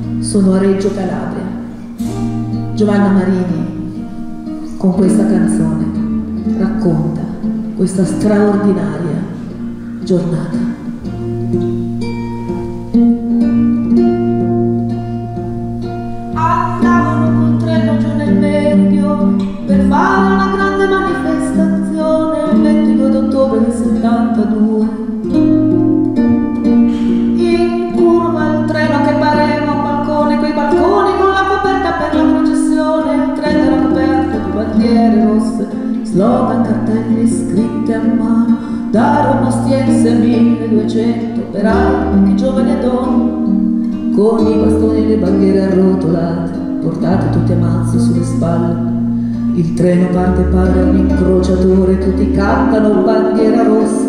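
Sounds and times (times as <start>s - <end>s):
woman singing: 0.0s - 11.4s, 16.3s - 25.8s, 26.8s - 54.0s
acoustic guitar: 0.0s - 54.0s.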